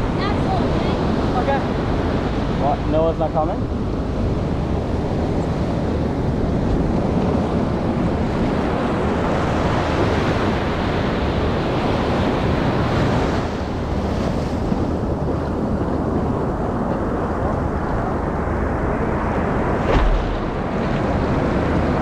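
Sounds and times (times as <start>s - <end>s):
ocean surf washing in: 0.0s - 22.0s
wind buffeting microphone: 0.0s - 22.0s.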